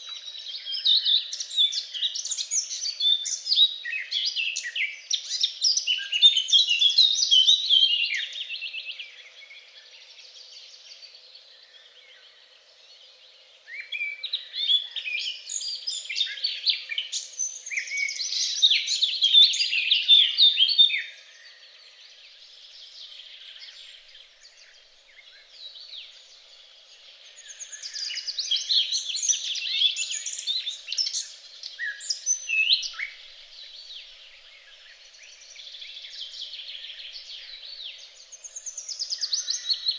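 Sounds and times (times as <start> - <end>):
songbirds twittering and chirping: 0.0 - 39.9.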